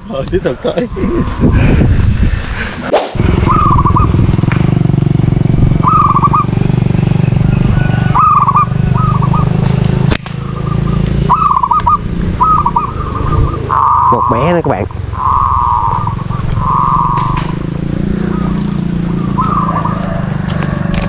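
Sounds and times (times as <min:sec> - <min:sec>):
motorcycle engine running: 0:03.2 - 0:21.0.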